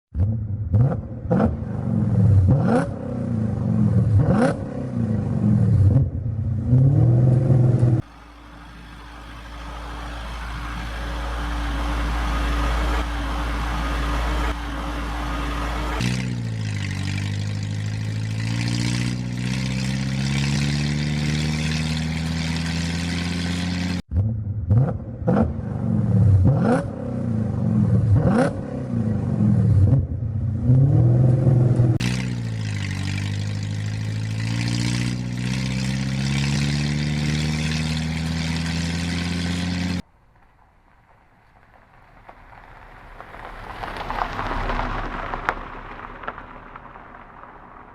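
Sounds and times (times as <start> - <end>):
engine note climbing in pitch: 0.2 - 40.0.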